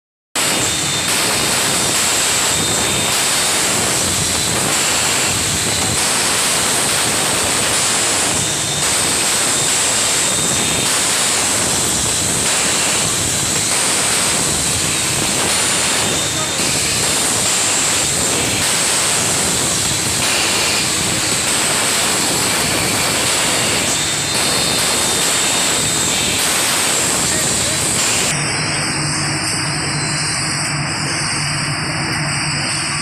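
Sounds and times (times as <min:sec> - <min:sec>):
machine rushing with high hiss: 0:00.4 - 0:33.0.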